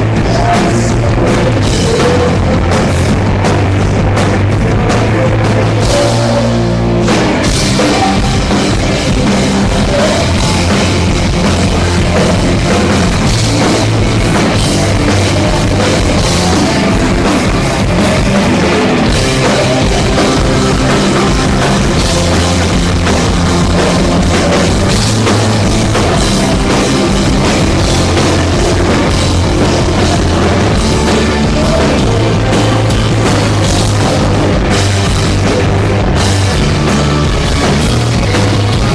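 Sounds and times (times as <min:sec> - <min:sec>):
drum kit beat: 0:00.0 - 0:38.9
rock band playing live: 0:00.0 - 0:38.9.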